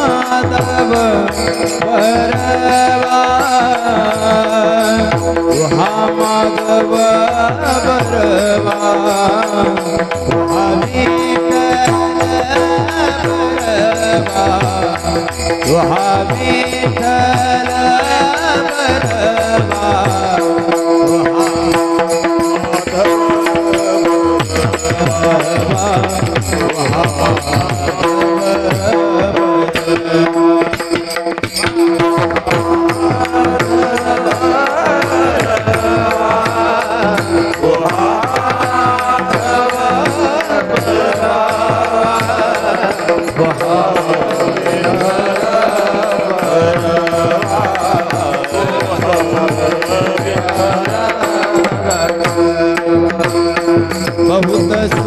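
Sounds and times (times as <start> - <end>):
hand drum rhythm: 0.0 - 55.0.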